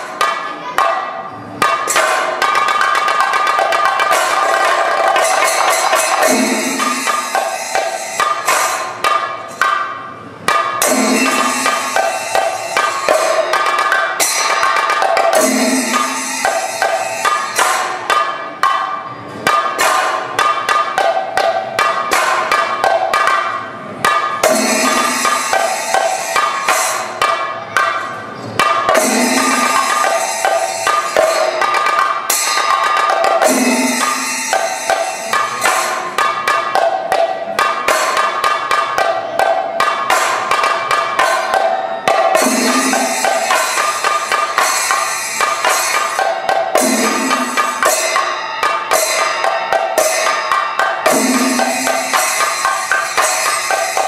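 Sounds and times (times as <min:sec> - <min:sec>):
cymbals ringing: 0:00.0 - 0:54.0
drums beaten with sticks: 0:00.0 - 0:54.0.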